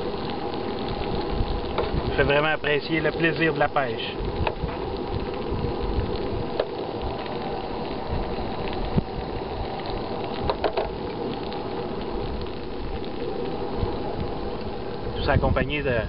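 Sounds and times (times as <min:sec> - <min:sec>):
fish sizzling in frying pan: 0:00.0 - 0:16.0.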